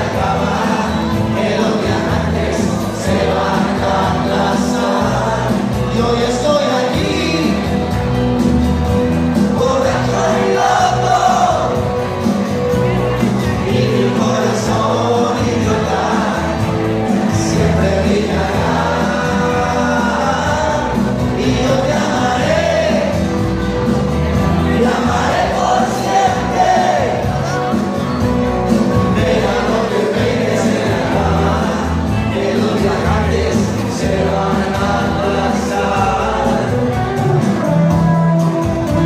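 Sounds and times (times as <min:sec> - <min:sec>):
crowd voices: 0:00.0 - 0:39.0
loud music with singing: 0:00.0 - 0:39.0.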